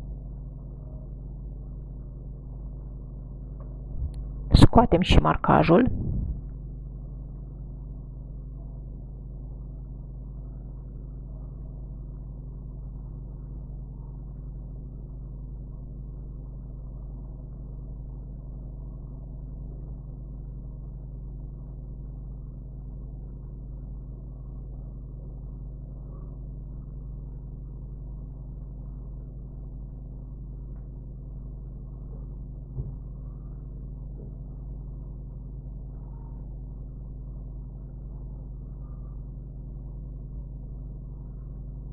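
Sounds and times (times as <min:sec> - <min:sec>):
low background hum: 0:00.0 - 0:41.9.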